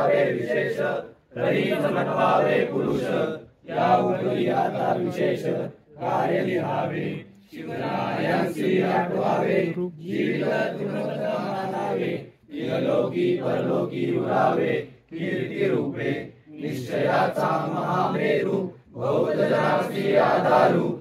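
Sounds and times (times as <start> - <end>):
crowd chanting in unison: 0.0 - 21.0.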